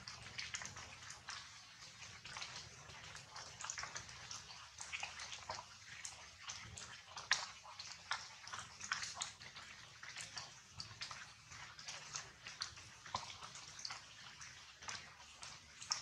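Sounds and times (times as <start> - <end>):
rain drops pattering: 0.0 - 16.0.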